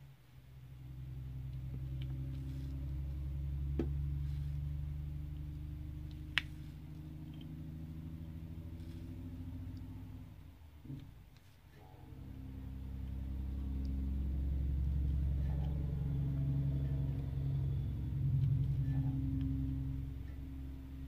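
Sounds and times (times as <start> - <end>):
low steady engine-like hum: 0.0 - 21.0.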